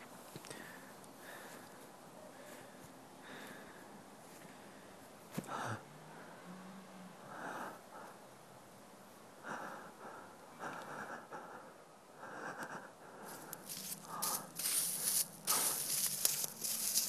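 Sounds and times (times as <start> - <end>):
person breathing heavily: 0.3 - 6.6, 7.2 - 8.4, 9.4 - 17.0.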